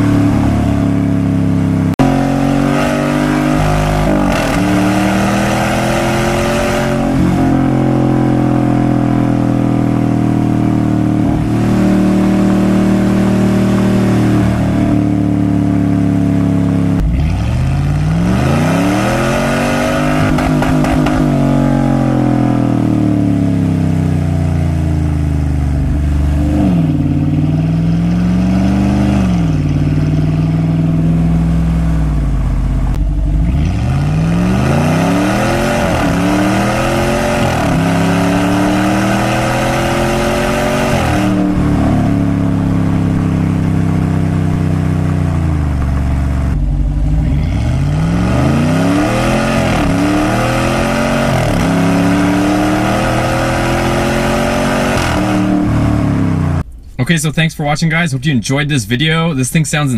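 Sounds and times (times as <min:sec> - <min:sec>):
engine revving: 0:00.0 - 0:56.7.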